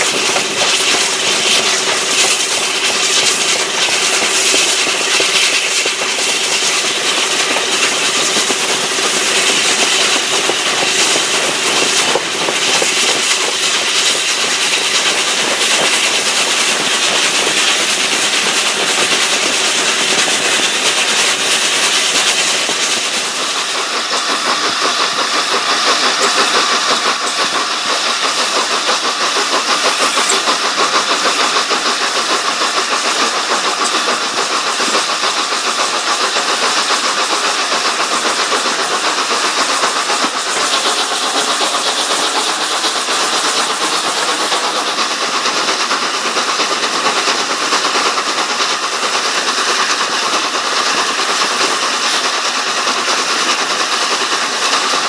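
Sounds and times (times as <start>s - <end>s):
carriages running on rails: 0.0s - 55.0s
steam locomotive exhaust beating: 0.0s - 55.0s.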